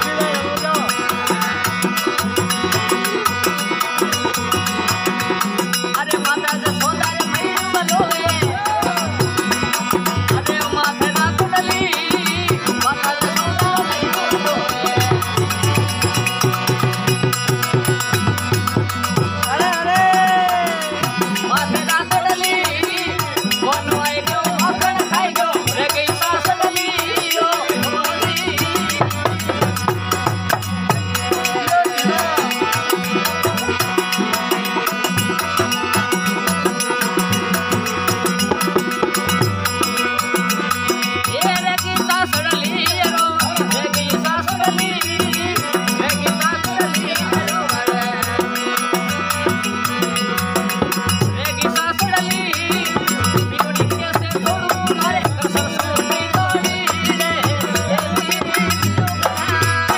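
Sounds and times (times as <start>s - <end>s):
harmonium chords: 0.0s - 59.9s
man singing: 0.0s - 59.9s
steady drum beat: 0.0s - 59.9s.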